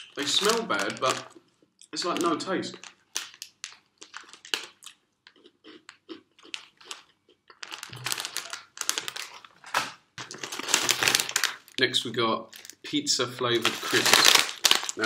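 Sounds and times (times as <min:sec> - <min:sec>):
plastic snack packet crinkling: 0:00.0 - 0:15.0.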